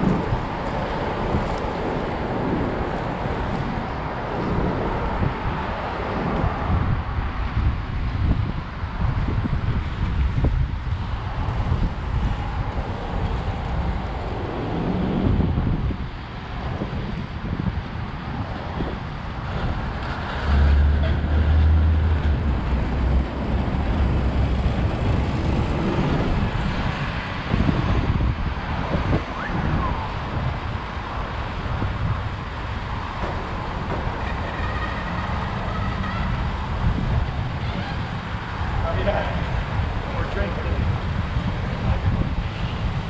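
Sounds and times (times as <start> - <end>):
bus and truck passing: 0.0 - 43.0
city street traffic: 0.0 - 43.0.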